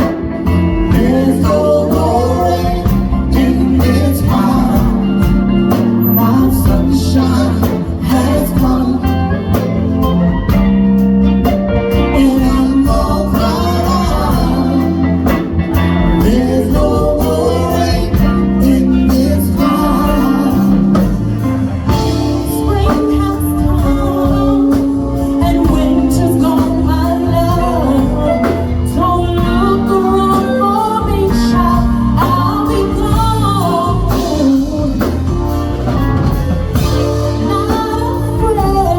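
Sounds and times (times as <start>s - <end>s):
person singing: 0.0s - 10.6s, 11.5s - 38.9s
electric guitar: 0.0s - 38.9s
live band playing blues-soul: 0.0s - 38.9s.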